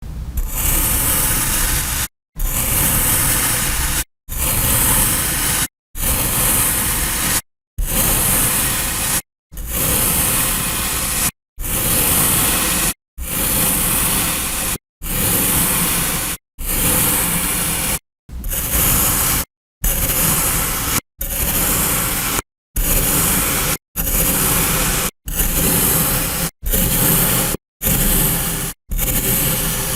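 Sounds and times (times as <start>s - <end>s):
kinetic sand being cut: 0.4s - 29.9s.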